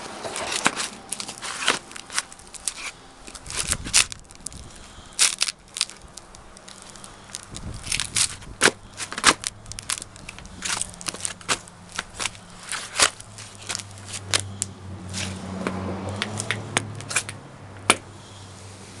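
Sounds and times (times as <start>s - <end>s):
cardboard box crunching underfoot: 0.0s - 17.4s.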